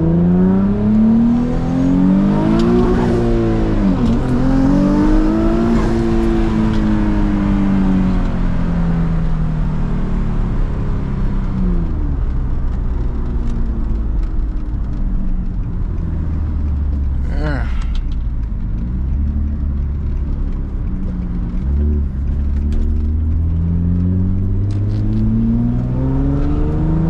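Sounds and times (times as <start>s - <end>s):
car engine revving: 0.0s - 9.4s, 10.0s - 27.0s.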